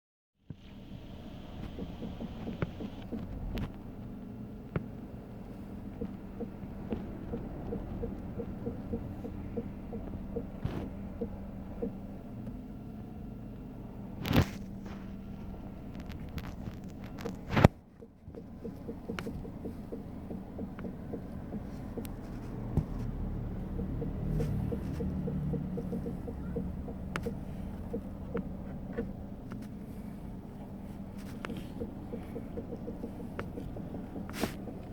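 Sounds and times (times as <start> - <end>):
engine hum: 0.4 - 34.9
suspension clicking: 0.5 - 12.8, 13.6 - 34.9.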